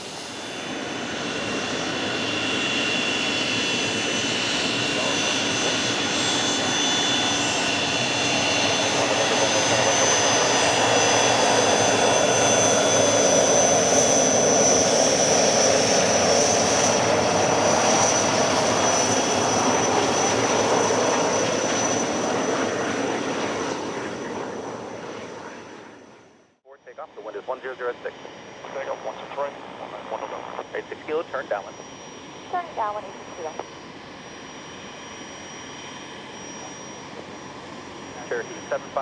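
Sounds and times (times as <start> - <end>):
jet engines roaring: 0.0 - 26.0, 27.3 - 39.0.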